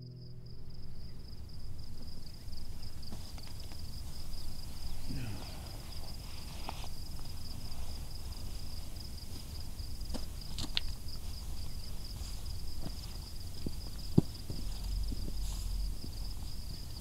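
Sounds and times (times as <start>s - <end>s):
insects trilling: 0.0s - 17.0s
low rumble: 0.0s - 17.0s.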